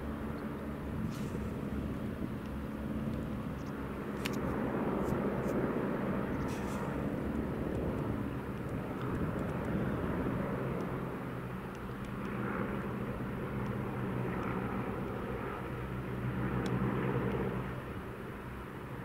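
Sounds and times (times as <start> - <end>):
biplane engines droning: 0.0 - 19.0.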